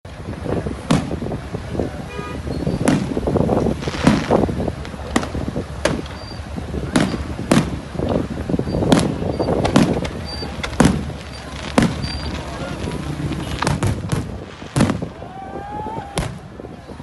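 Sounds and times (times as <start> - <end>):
steady low rumble: 0.1 - 17.0
fireworks bangs: 0.4 - 16.7.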